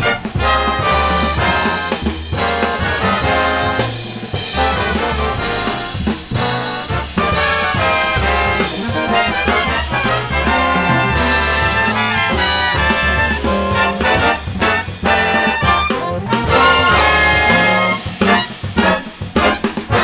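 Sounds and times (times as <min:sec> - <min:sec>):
big band jazz: 0:00.0 - 0:20.0.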